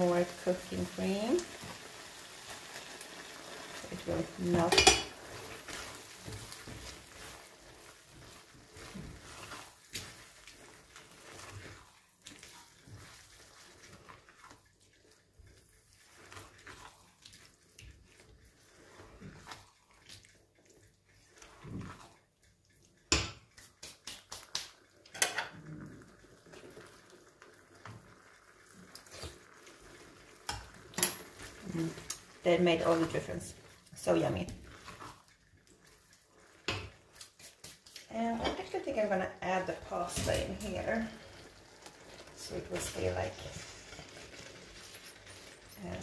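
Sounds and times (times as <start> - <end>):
spatula stirring thick sauce: 0.0 - 46.0.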